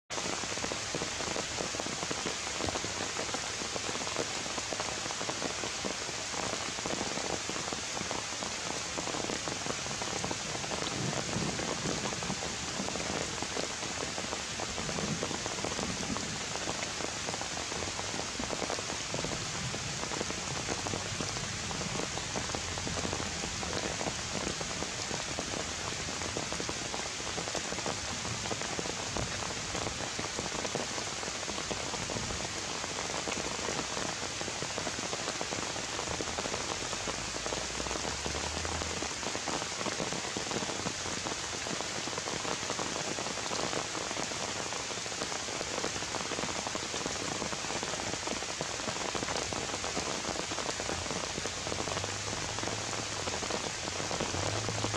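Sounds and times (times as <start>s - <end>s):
rain falling on foliage: 0.1s - 54.9s.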